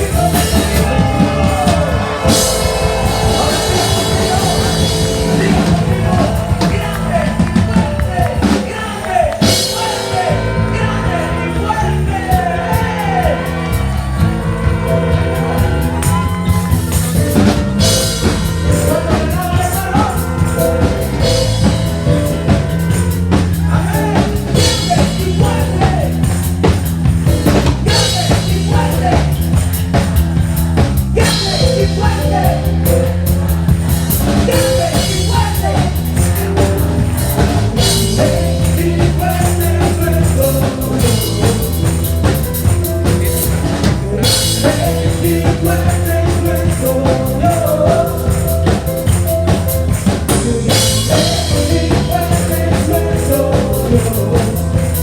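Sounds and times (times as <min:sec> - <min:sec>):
drum kit steady beat: 0:00.0 - 0:55.0
live band playing rock music: 0:00.0 - 0:55.0.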